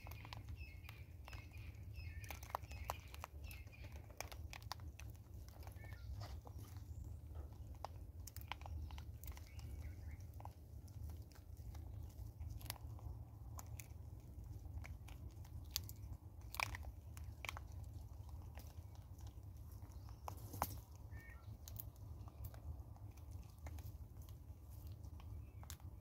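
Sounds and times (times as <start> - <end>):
monkeys chewing seeds: 0.0 - 26.0
steady low rumble: 0.0 - 26.0.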